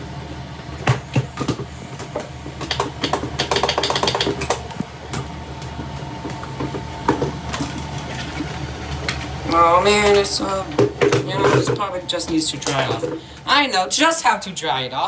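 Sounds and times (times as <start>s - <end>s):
electrical clicks and crackling: 0.0s - 15.0s
steady electrical hum: 0.0s - 15.0s.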